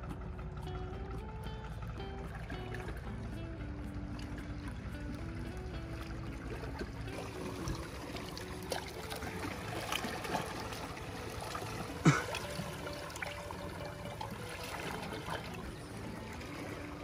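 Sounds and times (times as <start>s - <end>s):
faint background music: 0.0s - 17.0s
waves lapping on rocks: 2.3s - 17.0s.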